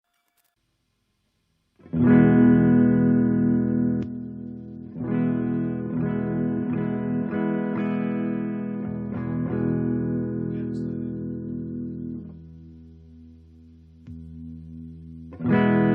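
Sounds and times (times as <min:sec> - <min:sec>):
electric guitar strumming: 0:01.8 - 0:15.9.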